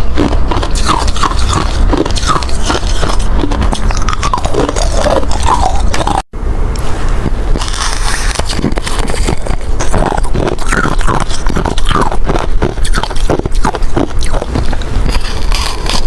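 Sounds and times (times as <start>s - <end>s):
ice crunching between teeth: 0.0s - 6.3s, 7.5s - 16.0s.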